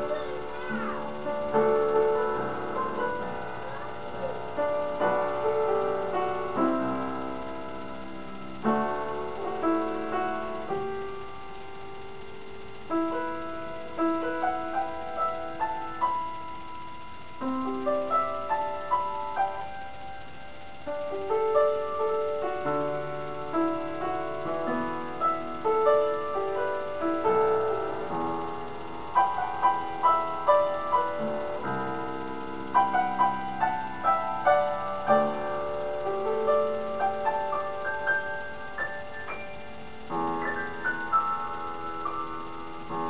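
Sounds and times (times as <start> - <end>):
upright piano piece: 0.0 - 43.0.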